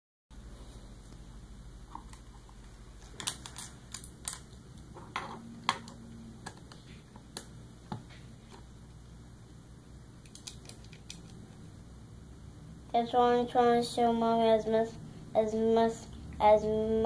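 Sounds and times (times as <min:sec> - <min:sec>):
faint low hum: 0:00.4 - 0:17.0.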